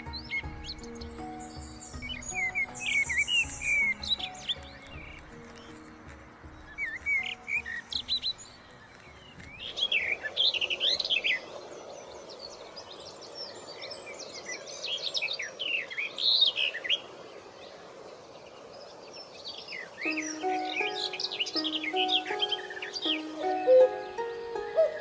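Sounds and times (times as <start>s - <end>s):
birds singing and chirping: 0.0s - 25.0s
faint background music: 0.0s - 25.0s.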